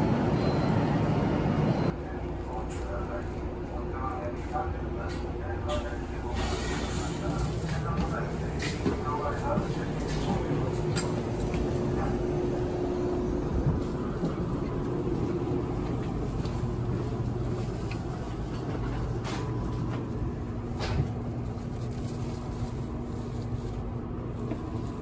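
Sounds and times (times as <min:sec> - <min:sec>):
railcar rumble and hum: 0:00.0 - 0:25.0.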